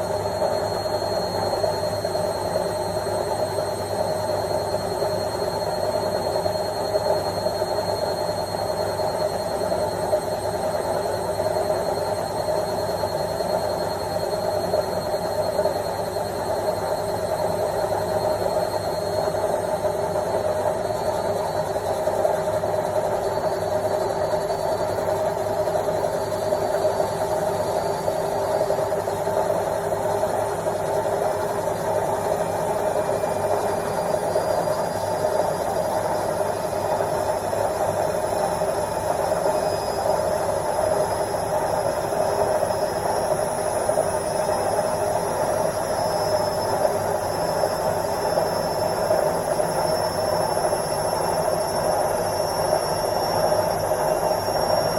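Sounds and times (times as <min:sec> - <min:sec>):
faint high whine: 0:00.0 - 0:54.9.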